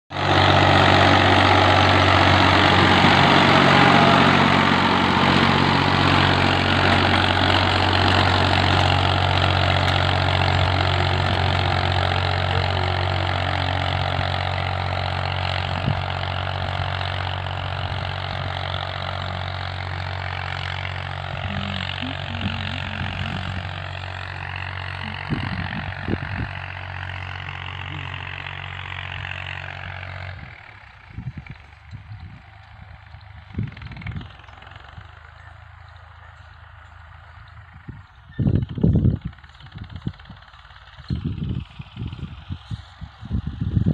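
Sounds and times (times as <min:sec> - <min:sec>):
tractor engine running under load: 0:00.1 - 0:43.9.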